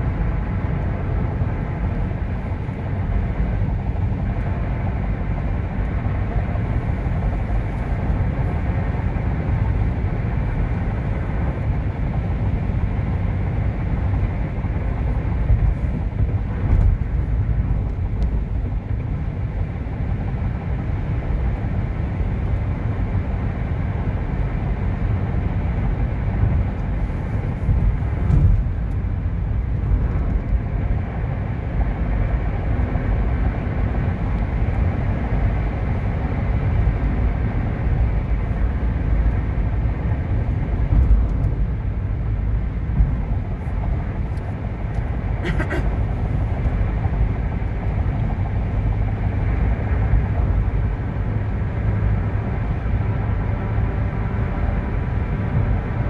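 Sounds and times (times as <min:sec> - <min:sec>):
car engine hum: 0:00.0 - 0:56.0
road and tyre noise: 0:00.0 - 0:56.0.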